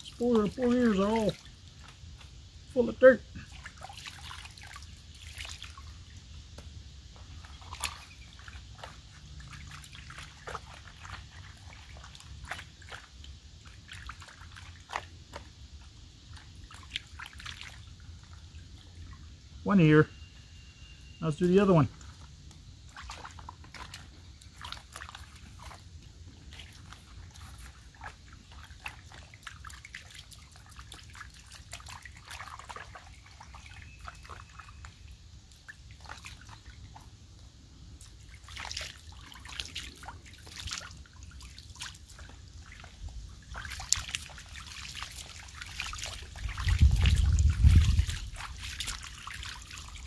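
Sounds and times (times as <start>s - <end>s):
water dripping and trickling: 0.0s - 20.5s, 21.2s - 50.0s
water splashing and sloshing: 0.0s - 50.0s.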